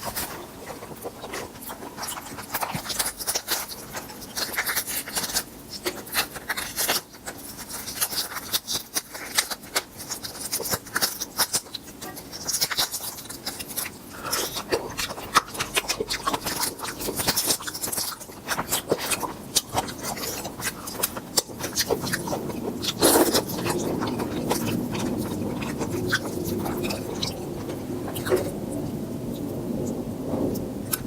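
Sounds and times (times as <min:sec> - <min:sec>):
prawns being chewed and crunched: 0:00.0 - 0:31.0.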